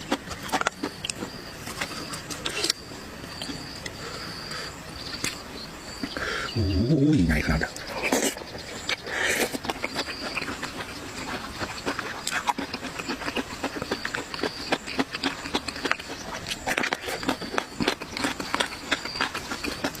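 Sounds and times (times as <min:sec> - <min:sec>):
oysters chewed and slurped: 0:00.0 - 0:05.4, 0:06.1 - 0:20.0.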